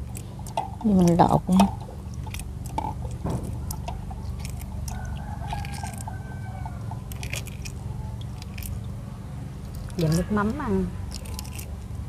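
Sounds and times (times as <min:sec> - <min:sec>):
egg shells crackling as peeled: 0:00.0 - 0:08.9, 0:09.6 - 0:10.3, 0:11.0 - 0:12.0.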